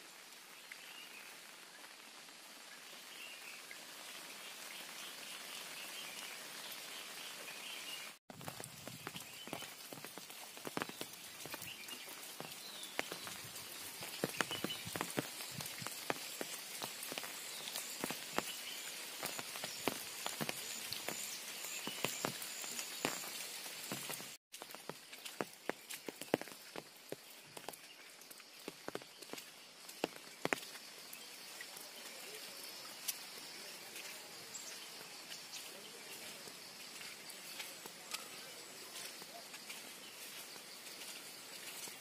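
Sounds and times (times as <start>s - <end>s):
rain pattering on leaves: 0.0s - 42.0s.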